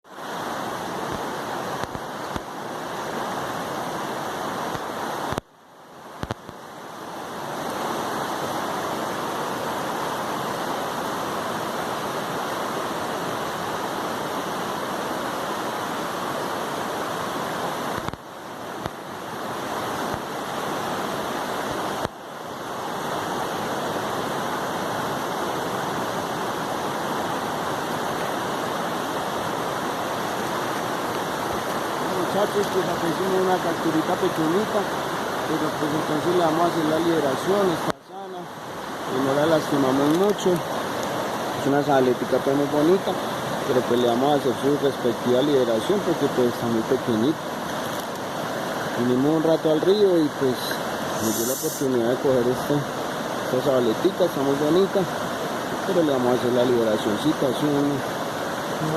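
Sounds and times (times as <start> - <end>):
river water rushing: 0.1 - 58.9.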